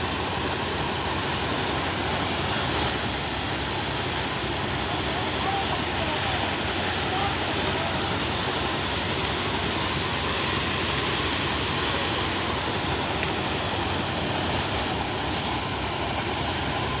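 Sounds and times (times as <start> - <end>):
motorized thresher running: 0.0 - 17.0.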